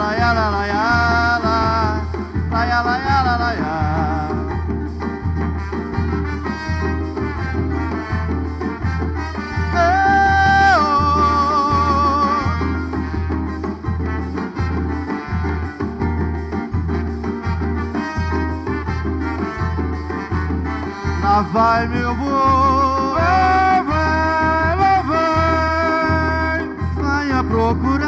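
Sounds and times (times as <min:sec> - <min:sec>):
live band playing instrumental music: 0:00.0 - 0:28.0
wavering lead melody line: 0:03.8 - 0:28.0.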